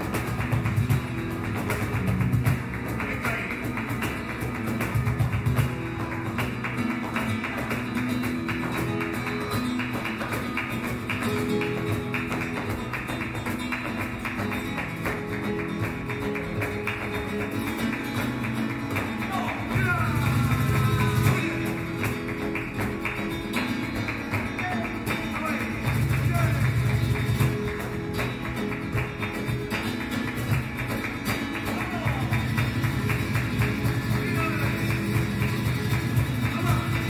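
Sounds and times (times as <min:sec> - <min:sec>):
acoustic guitar playing: 0:00.0 - 0:37.0.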